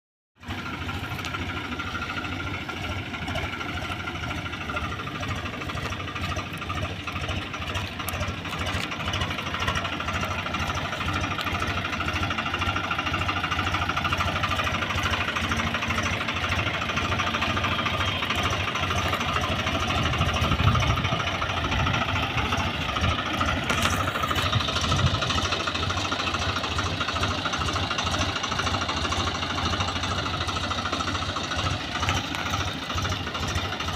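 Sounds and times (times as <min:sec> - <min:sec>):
tanker truck engine running: 0:00.4 - 0:33.9.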